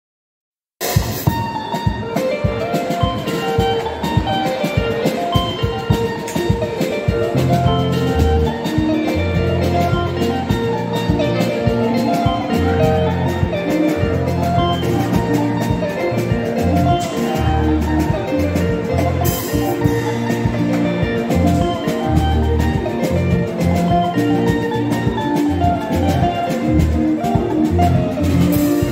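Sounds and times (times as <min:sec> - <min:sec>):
drum kit beat: 0:00.8 - 0:28.9
keyboard chords: 0:01.0 - 0:28.9
electric guitar solo: 0:01.2 - 0:28.9.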